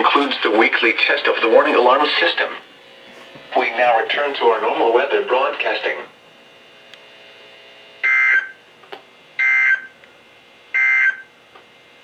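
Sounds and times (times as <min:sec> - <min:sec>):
faint receiver hum: 0:00.0 - 0:12.0.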